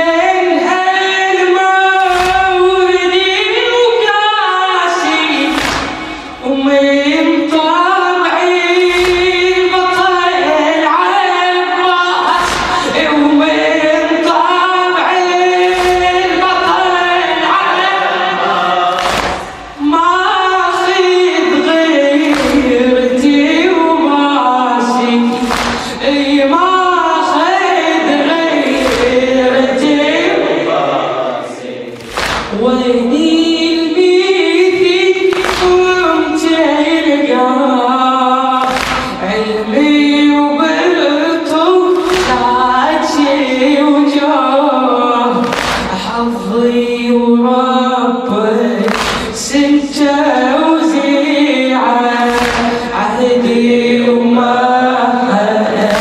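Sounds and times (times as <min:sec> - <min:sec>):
voices chanting in chorus: 0:00.0 - 0:56.0.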